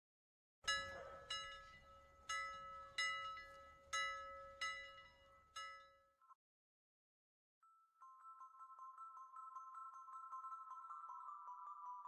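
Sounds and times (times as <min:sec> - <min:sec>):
bell-like notes ringing: 0:00.7 - 0:06.2, 0:07.6 - 0:12.0.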